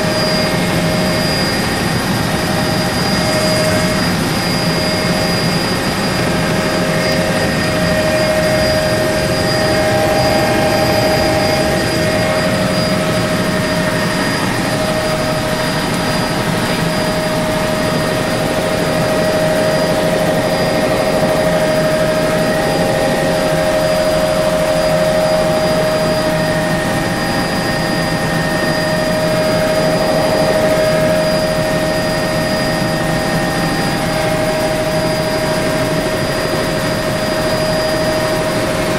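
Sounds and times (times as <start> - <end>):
helicopter cabin drone: 0.0 - 38.9
turbine high whine: 0.0 - 38.9.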